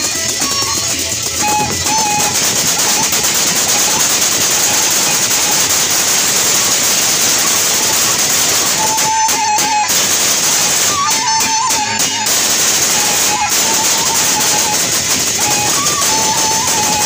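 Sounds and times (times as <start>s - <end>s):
clashing hand cymbals: 0.0s - 17.0s
large drums: 0.0s - 17.0s
thin high held tone: 0.0s - 17.0s.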